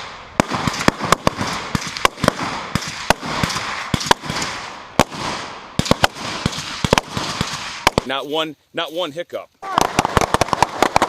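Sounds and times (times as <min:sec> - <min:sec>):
rifle shots with echo: 0:00.0 - 0:08.2, 0:09.6 - 0:11.0.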